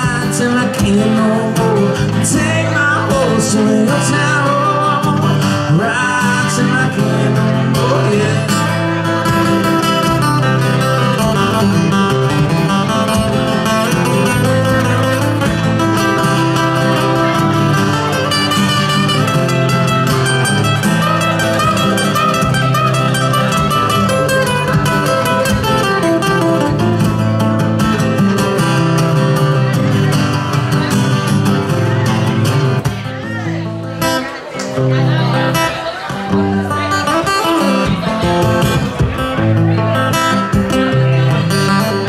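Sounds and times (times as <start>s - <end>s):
acoustic guitar strummed and picked: 0.0s - 42.0s.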